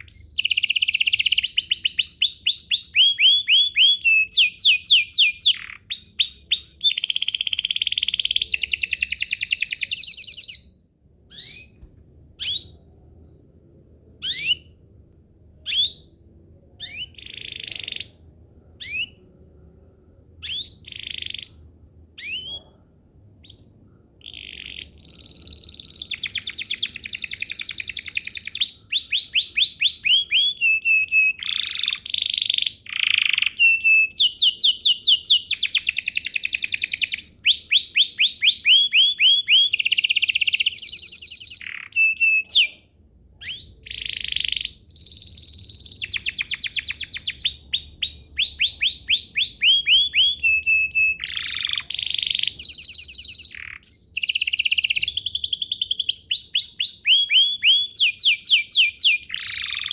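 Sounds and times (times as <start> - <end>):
canary sharp chirps: 0.0 - 13.0, 14.2 - 14.8, 15.6 - 19.4, 20.4 - 59.9
canary singing trills: 0.0 - 13.4, 14.2 - 14.8, 15.6 - 19.4, 20.4 - 59.9.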